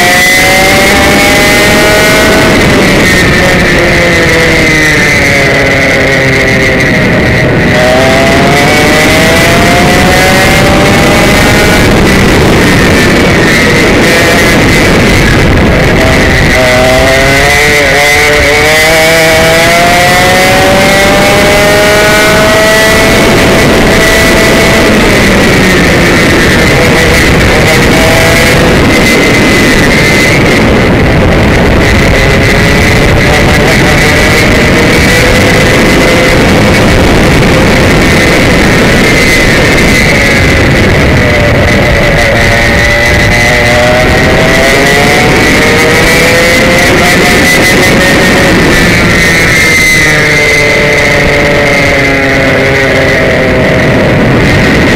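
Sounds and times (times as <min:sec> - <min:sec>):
kart engine buzzing: 0:00.0 - 0:54.9
wind and road noise: 0:00.0 - 0:54.9.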